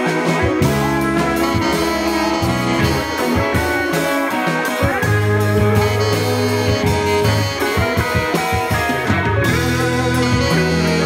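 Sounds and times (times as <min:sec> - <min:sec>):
bass guitar: 0:00.0 - 0:11.0
drum kit: 0:00.0 - 0:11.0
electric guitars: 0:00.0 - 0:11.0.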